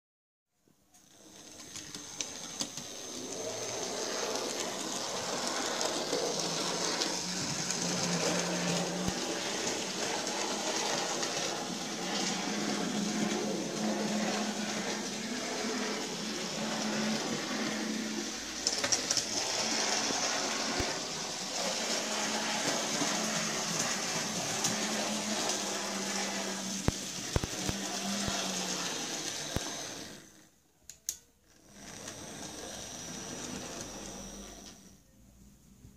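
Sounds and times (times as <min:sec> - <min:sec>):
model train motor whirr: 0:00.9 - 0:30.5, 0:31.1 - 0:35.0.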